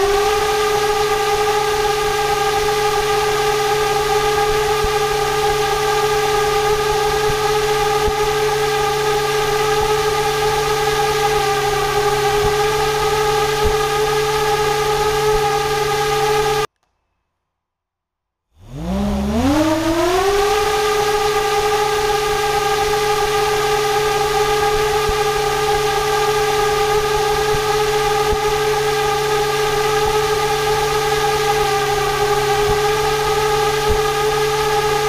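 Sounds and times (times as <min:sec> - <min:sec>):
motor high-pitched whine: 0:00.0 - 0:16.7, 0:18.6 - 0:35.0.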